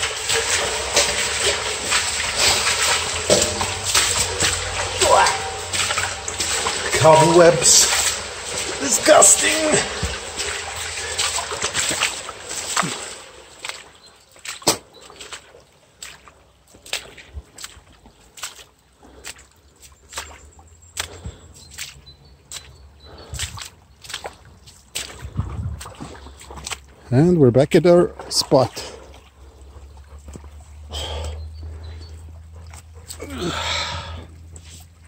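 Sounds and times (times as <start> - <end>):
footsteps splashing in water: 0.0 - 35.0
stream trickling: 0.0 - 35.0.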